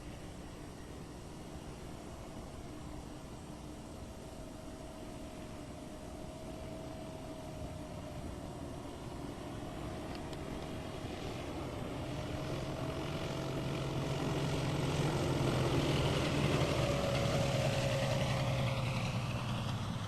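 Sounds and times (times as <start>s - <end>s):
light aircraft flying over: 0.0s - 20.0s.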